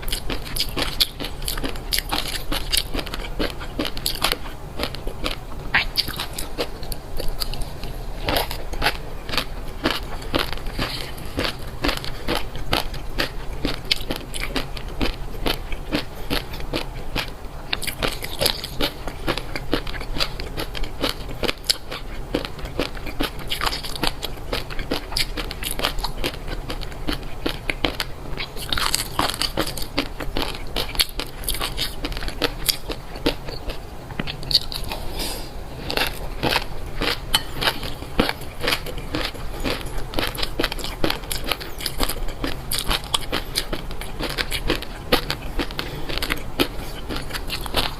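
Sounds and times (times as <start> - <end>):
person crunching food: 0.0 - 47.9.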